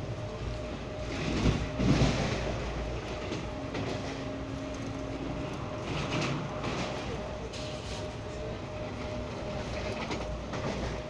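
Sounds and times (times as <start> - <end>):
train rumbling at high speed: 0.0 - 11.0.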